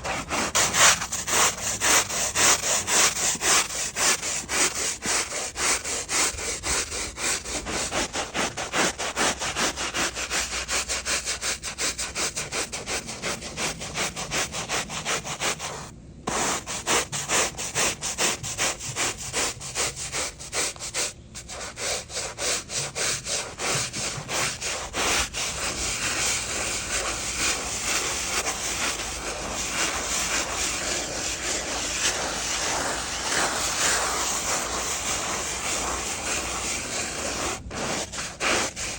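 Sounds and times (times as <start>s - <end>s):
stiff brush scrubbing tarmac: 0.0s - 38.9s.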